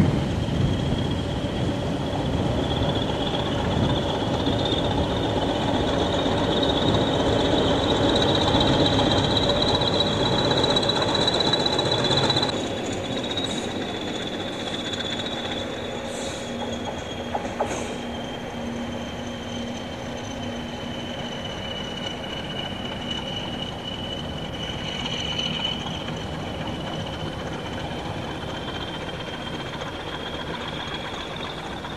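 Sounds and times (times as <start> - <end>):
diesel locomotives passing: 0.0 - 31.9
engine high whistle over rumble: 0.0 - 31.9.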